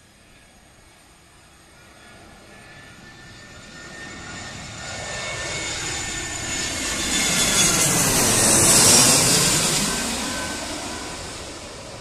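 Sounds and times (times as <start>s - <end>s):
jet engine whine: 0.0s - 12.0s
jet engines on landing approach: 0.0s - 12.0s.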